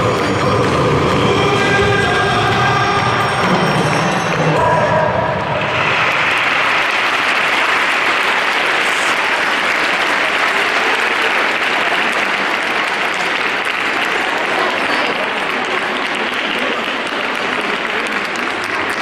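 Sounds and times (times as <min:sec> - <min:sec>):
large audience applauding: 0:02.3 - 0:19.0.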